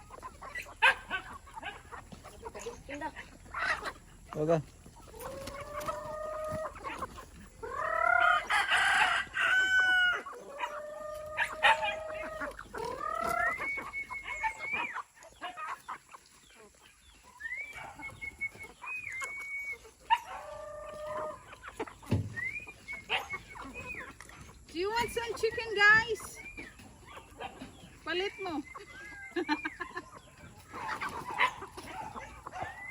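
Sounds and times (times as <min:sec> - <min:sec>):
chickens clucking: 0:00.0 - 0:32.9
roosters crowing: 0:04.9 - 0:15.8, 0:17.3 - 0:32.9.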